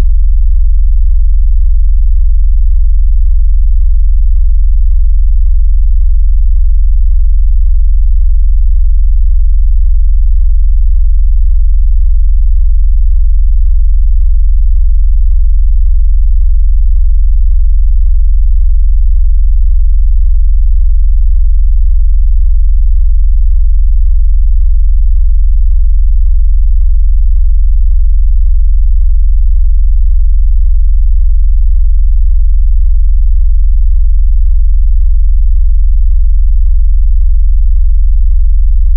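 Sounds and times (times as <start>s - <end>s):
deep pulsing electronic hum: 0.0s - 38.9s.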